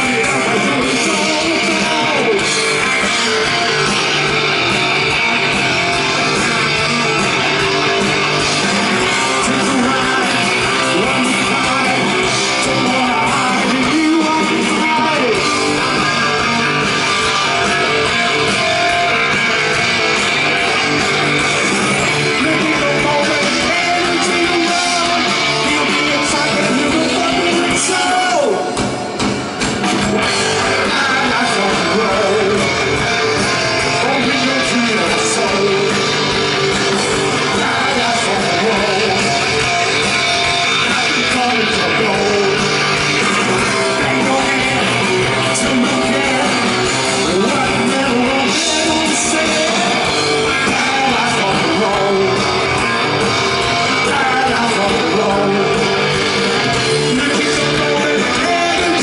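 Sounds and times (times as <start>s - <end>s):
person singing lead vocal: 0.0s - 29.2s, 30.2s - 59.0s
bass guitar: 0.0s - 59.0s
distorted electric guitar: 0.0s - 59.0s.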